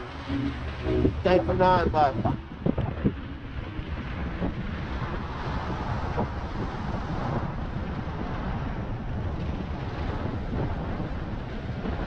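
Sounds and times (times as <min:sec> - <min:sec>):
road noise: 0:00.0 - 0:12.0
wind rushing over microphone: 0:00.0 - 0:12.0.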